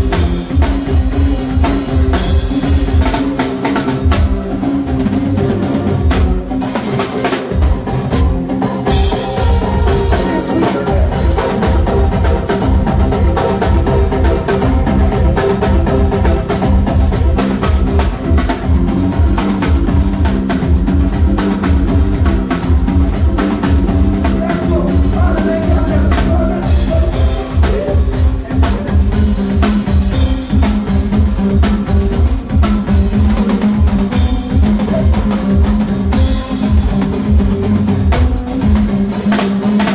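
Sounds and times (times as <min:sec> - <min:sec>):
band playing instrumental: 0:00.0 - 0:39.9
bass: 0:00.0 - 0:39.9
drum kit kick and snare: 0:00.0 - 0:39.9.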